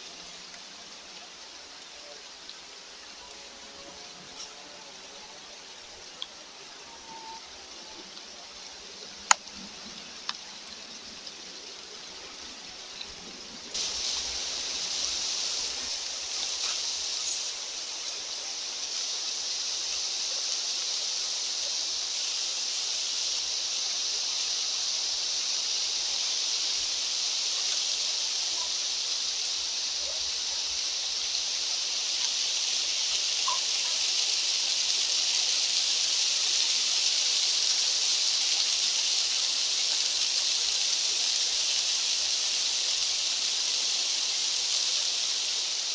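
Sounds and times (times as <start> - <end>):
rushing outdoor nature ambience: 0.0 - 45.9.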